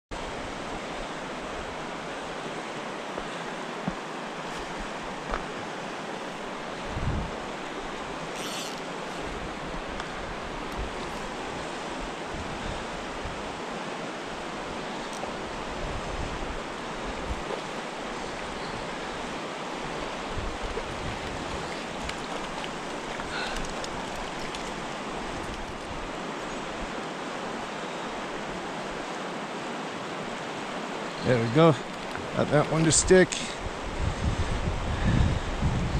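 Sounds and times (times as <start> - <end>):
river current rushing: 0.1 - 35.7.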